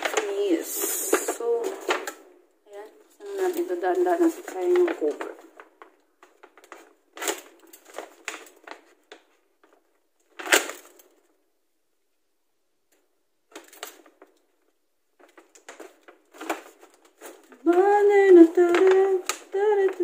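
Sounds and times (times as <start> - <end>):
paper bag rustling and crackling: 0.0 - 11.3, 13.5 - 20.0.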